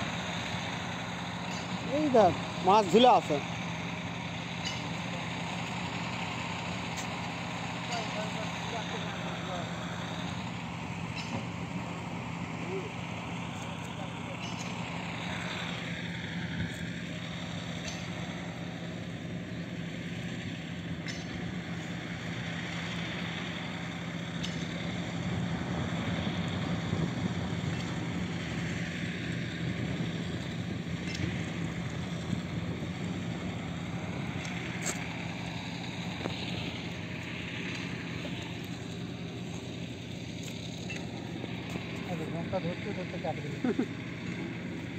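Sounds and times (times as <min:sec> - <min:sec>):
engine humming: 0:00.0 - 0:44.9.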